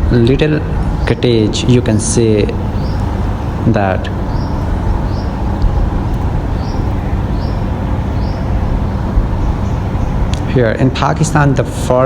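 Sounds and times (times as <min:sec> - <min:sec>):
vehicle engine and road rumble: 0:00.0 - 0:12.0
high rising chirp: 0:00.6 - 0:10.9.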